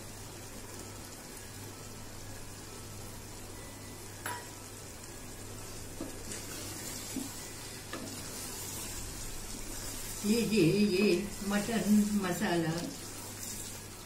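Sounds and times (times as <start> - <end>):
curry sizzling in pot: 0.0 - 14.0.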